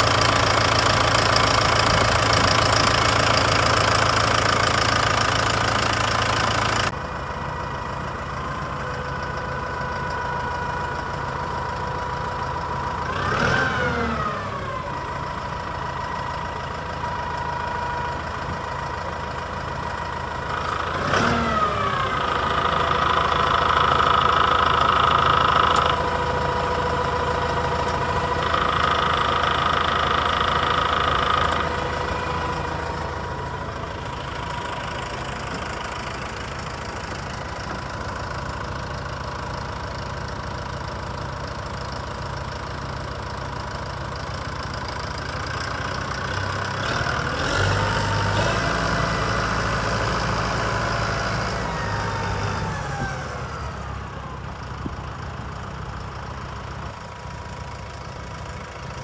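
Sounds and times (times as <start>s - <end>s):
diesel tractor engine idling: 0.0s - 59.0s.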